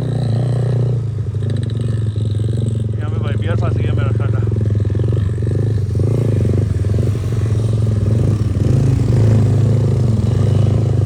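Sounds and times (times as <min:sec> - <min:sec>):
motorcycle engine revving hard: 0:00.0 - 0:11.0.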